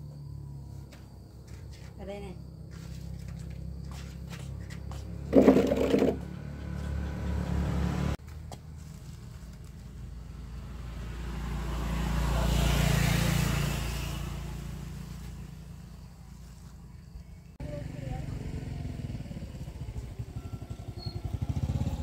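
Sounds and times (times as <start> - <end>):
vehicle passing by: 2.4 - 22.0.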